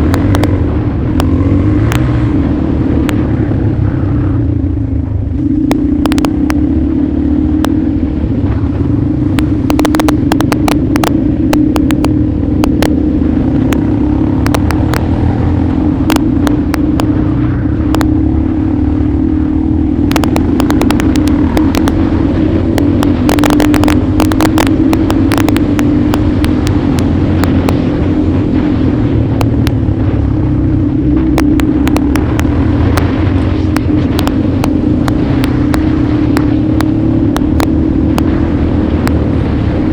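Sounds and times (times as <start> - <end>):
sharp clicks and knocks: 0.0 - 2.3, 3.0 - 3.4, 5.6 - 6.7, 7.5 - 7.8, 8.4 - 18.3, 20.0 - 30.3, 31.1 - 39.4
motorcycle engine running: 0.0 - 39.9.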